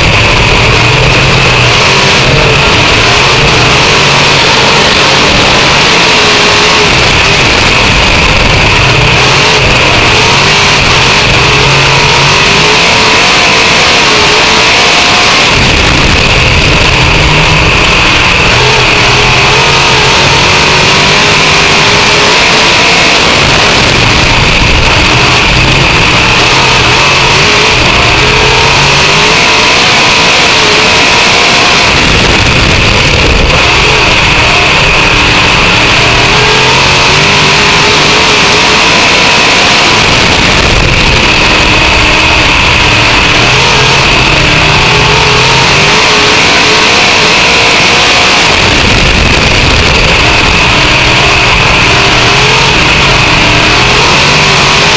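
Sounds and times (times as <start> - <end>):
race car engine revving: 0.0 - 54.9
steady high whine: 0.0 - 54.9.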